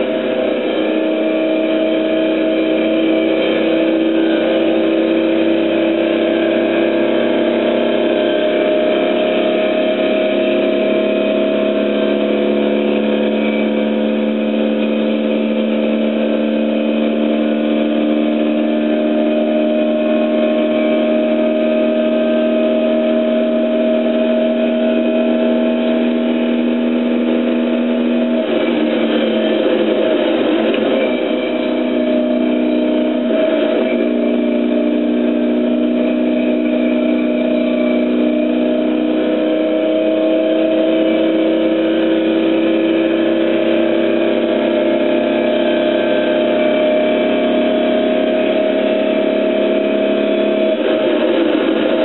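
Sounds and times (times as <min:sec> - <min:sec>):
car engine at high revs: 0:00.0 - 0:52.0.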